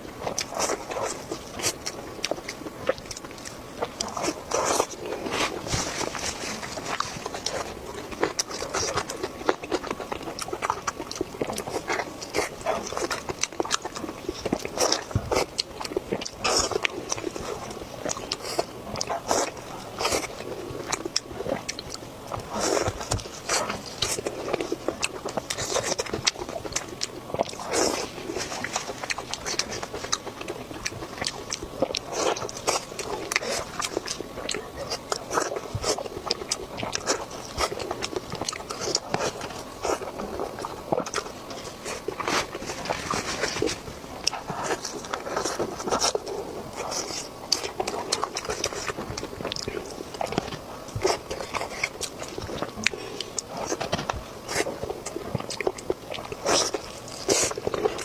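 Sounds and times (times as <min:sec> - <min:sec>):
crisp bites and crunchy chewing: 0:00.0 - 0:58.0.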